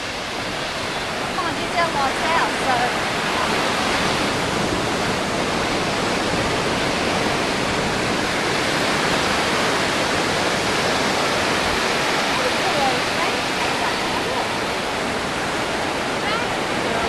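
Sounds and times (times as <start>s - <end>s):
surf washing up a beach: 0.0s - 17.0s.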